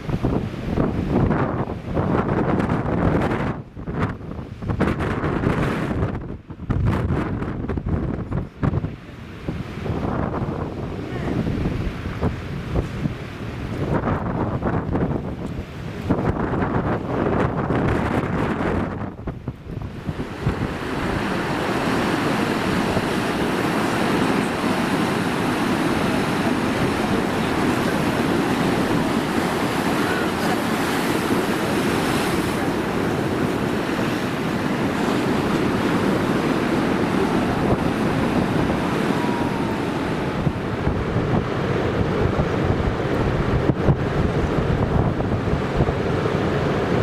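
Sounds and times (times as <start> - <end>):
wind gusting on microphone: 0.0 - 47.0
surf breaking on rocks: 8.6 - 47.0.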